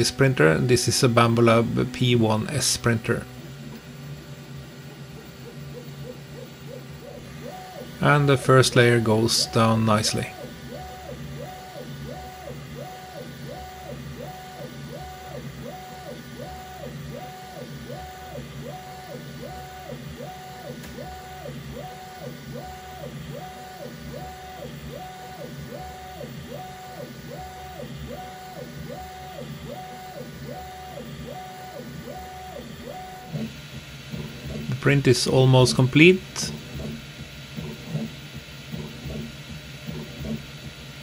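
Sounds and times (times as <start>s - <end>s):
fan hum: 0.0s - 41.0s
stepper motors whining: 0.0s - 41.0s.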